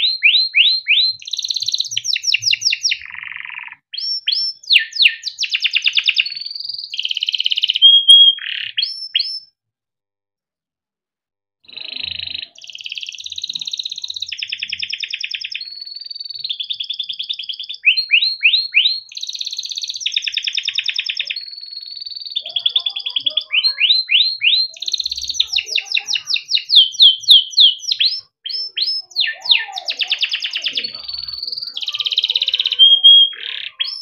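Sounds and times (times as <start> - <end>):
canary singing trilled song: 0.0 - 9.6, 11.7 - 34.0.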